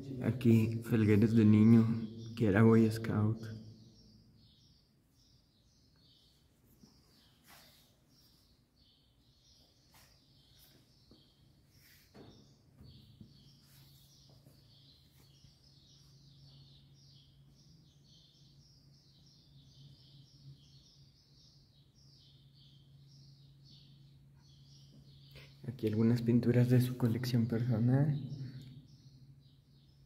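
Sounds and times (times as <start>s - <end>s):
faint high chirping: 0.0s - 30.0s.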